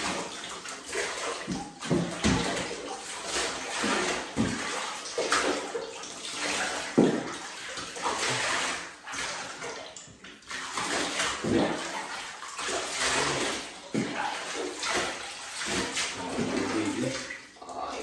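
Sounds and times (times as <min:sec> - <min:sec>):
water splashing in a bathtub: 0:00.0 - 0:18.0.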